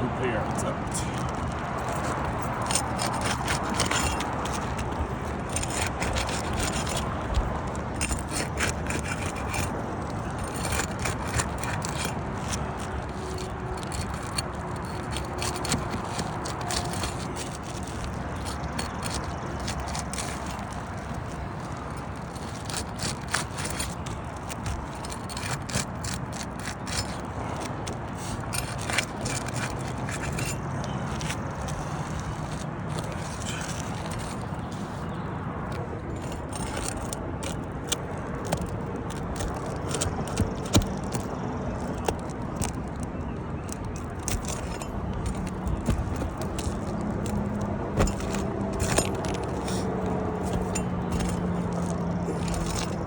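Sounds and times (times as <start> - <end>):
hand tools scraping shingles: 0.1 - 53.0.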